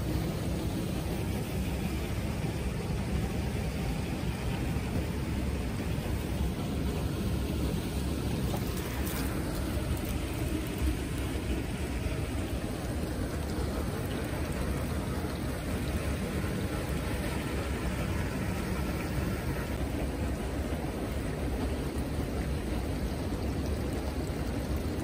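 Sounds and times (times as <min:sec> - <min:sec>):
low rumble: 0:00.0 - 0:23.6
running water rushing: 0:00.0 - 0:25.0.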